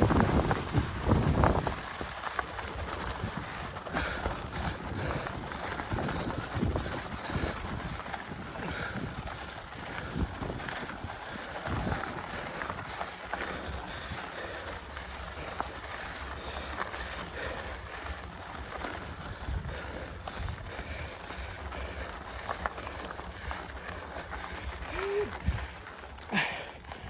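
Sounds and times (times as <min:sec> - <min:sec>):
bike and tyre noise: 0:00.0 - 0:27.0
wind rumbling on microphone: 0:00.0 - 0:27.0.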